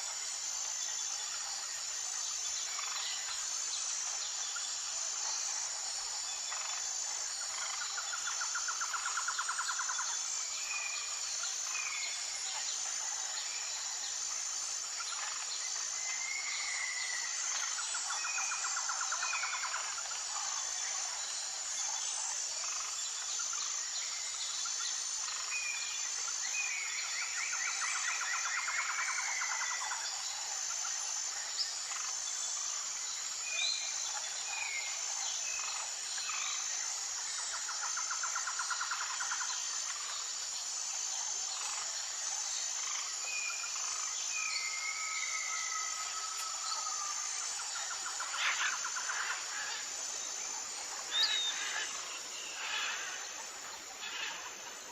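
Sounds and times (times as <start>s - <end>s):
pulsing insect chorus: 0.0s - 54.9s.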